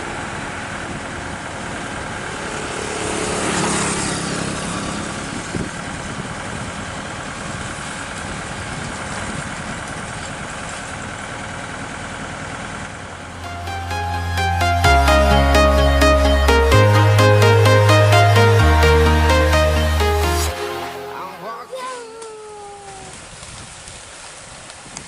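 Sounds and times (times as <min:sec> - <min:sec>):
excavator engine running: 0:00.0 - 0:21.8.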